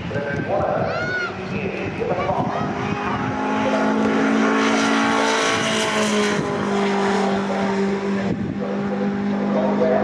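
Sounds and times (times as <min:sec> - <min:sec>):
truck engines passing: 0:00.0 - 0:10.0.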